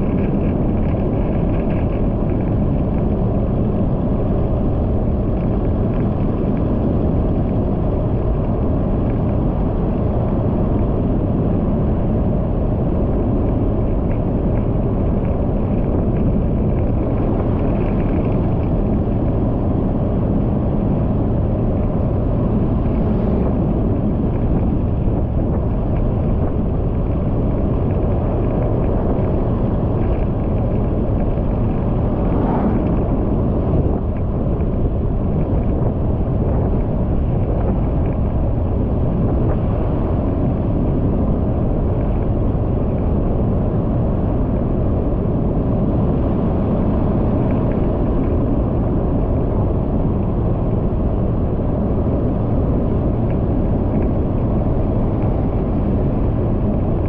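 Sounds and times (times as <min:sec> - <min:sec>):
vehicle wind and road noise: 0:00.0 - 0:57.0.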